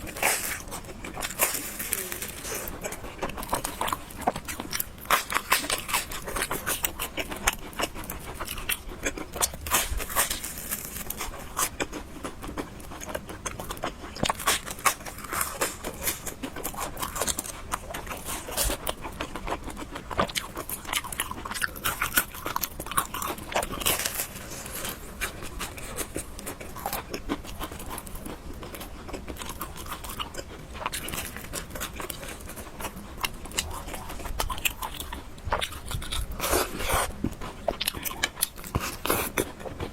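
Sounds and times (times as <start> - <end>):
close-miked chewing and crunching: 0.0 - 39.9.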